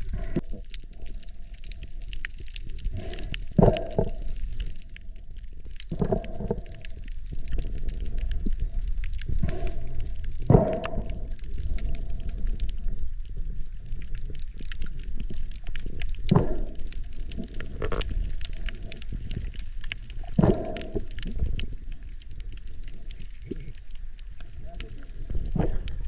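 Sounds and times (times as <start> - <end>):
underwater rumble: 0.0 - 26.0
water bubbling gurgles: 0.0 - 26.0.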